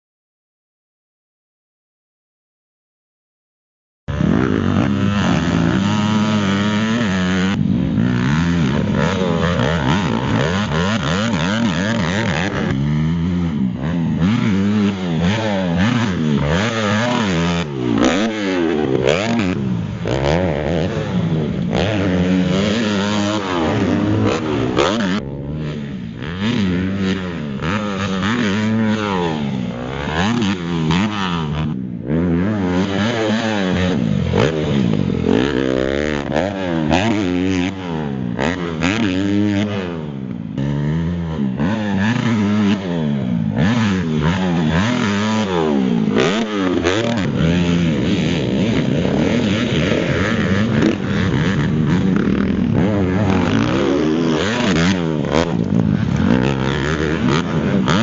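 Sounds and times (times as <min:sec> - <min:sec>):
motocross bike engine revving: 0:04.1 - 0:58.0.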